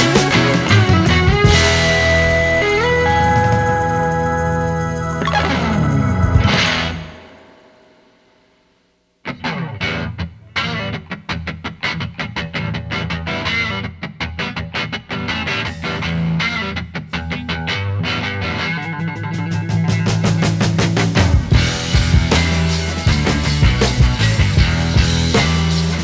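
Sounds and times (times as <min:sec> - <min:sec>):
guitar music with bass: 0:00.0 - 0:07.9, 0:09.2 - 0:26.0.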